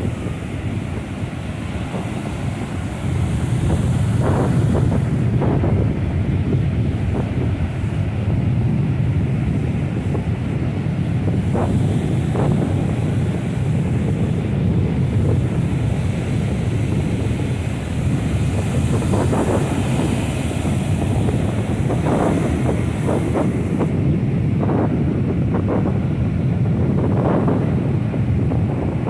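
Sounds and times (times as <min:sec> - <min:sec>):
ocean surf breaking on beach: 0:00.0 - 0:29.0
wind rumbling on microphone: 0:00.0 - 0:29.0.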